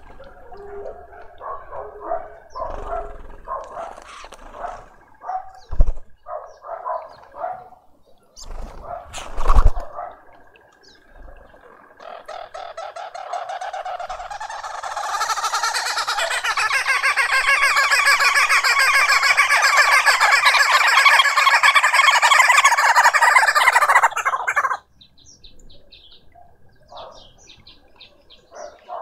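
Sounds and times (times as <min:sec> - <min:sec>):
birds chattering calls: 0:00.0 - 0:29.0.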